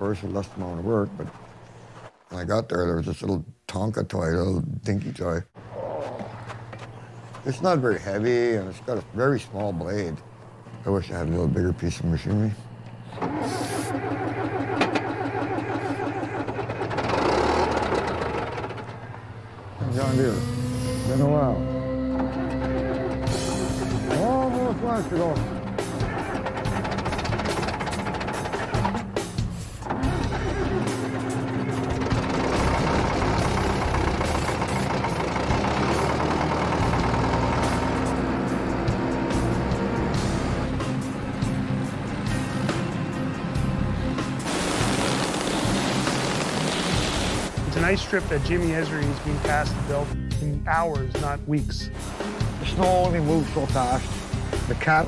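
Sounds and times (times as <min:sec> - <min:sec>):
dozer engine starting and running: 0:06.5 - 0:55.0.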